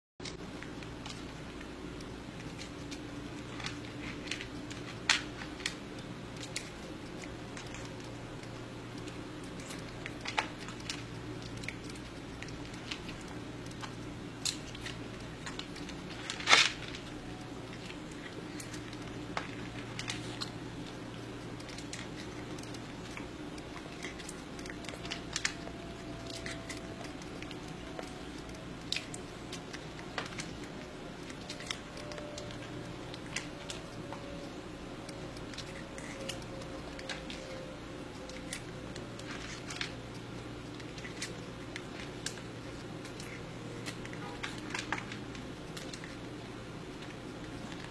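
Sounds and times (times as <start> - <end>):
steady low hum: 0.2 - 47.9.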